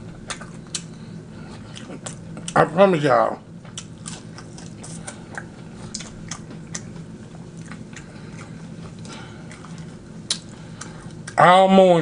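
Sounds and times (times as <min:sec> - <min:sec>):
man chewing with wet clicks: 0:00.0 - 0:02.7, 0:03.6 - 0:11.5
faint low hum: 0:00.0 - 0:12.0.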